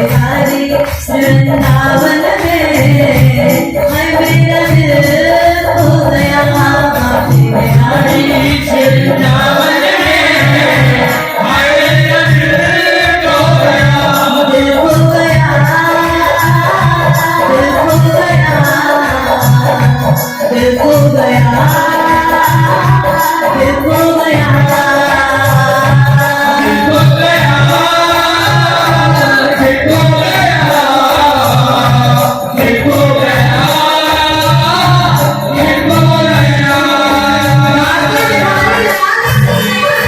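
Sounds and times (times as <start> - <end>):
devotional singing: 0.0 - 40.0
steady drum beat: 0.0 - 40.0.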